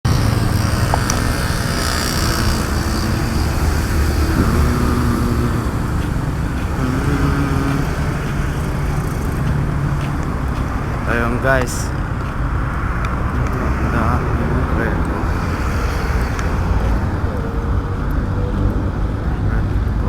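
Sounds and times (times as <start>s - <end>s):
road traffic engines rumbling: 0.0s - 20.0s.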